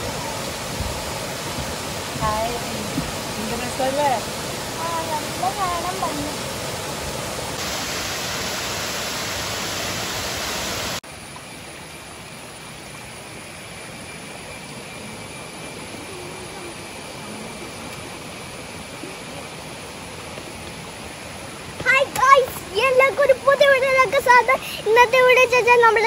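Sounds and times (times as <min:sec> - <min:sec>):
waterfall rushing water: 0:00.0 - 0:26.0.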